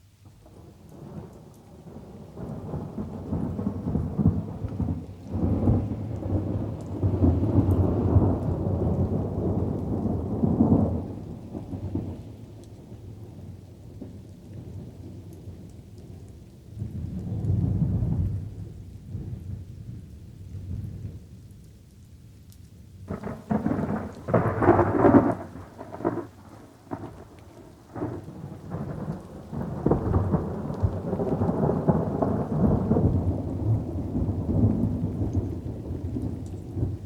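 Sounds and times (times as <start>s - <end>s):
light rain: 0.0s - 37.0s
thunder rumbling: 0.5s - 15.2s, 16.2s - 21.4s, 23.1s - 37.0s.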